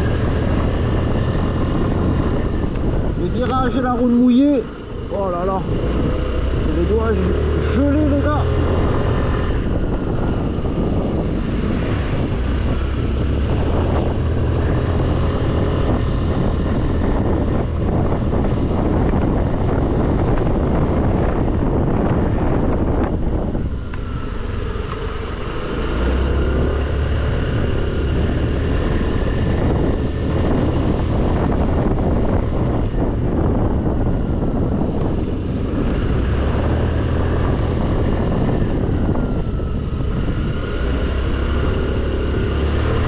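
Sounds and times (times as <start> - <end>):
scooter engine running: 0.0 - 43.0
wind rushing over microphone: 0.0 - 43.0.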